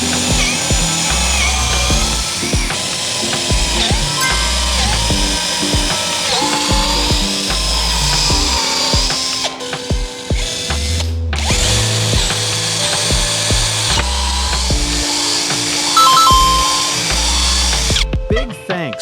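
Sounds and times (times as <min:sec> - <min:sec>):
power tool motor whining: 0:00.0 - 0:18.0
background music with steady beat: 0:00.0 - 0:19.0.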